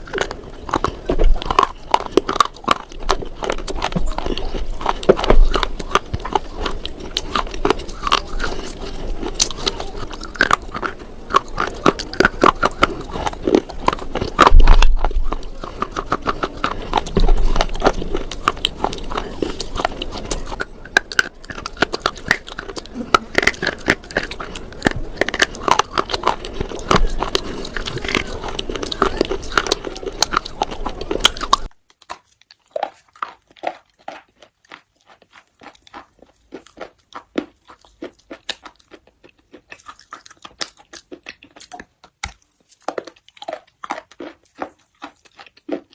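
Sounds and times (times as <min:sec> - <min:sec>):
person crunching brittle slate: 0:00.0 - 0:45.9.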